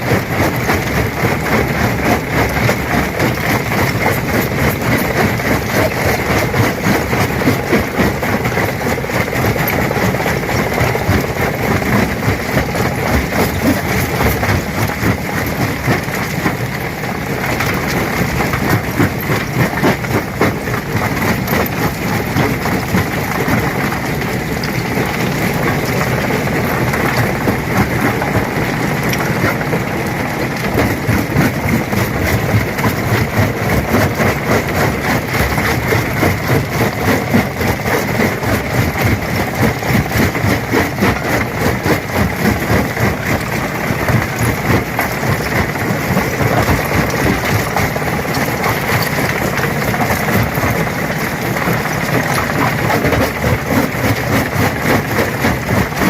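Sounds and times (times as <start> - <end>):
stone crusher running: 0.0 - 56.0
rock clattering: 10.6 - 56.0.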